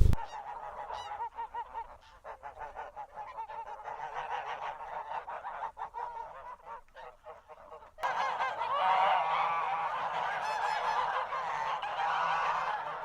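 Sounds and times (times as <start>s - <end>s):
waterfowl calling: 0.0s - 13.0s.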